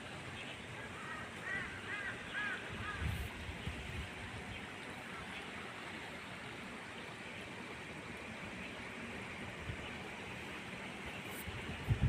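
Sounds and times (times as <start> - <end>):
hissing outdoor background noise: 0.0 - 12.0.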